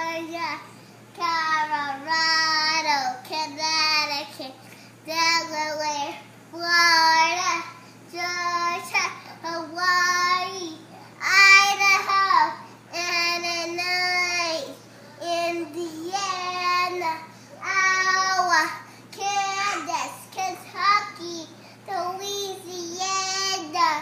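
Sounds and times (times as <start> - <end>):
child chanting in sing-song: 0.0 - 24.0.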